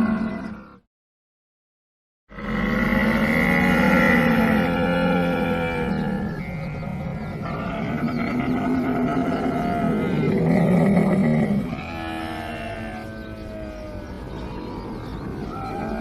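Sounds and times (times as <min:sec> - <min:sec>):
camel calling: 0:02.6 - 0:16.0.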